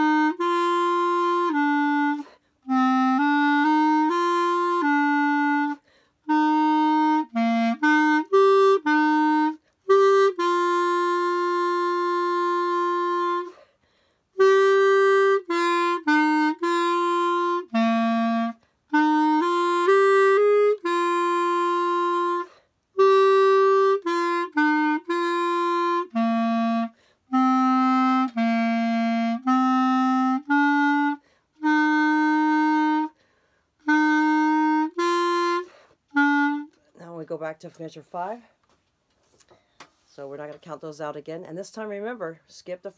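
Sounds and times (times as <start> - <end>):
solo clarinet melody: 0.0 - 37.1.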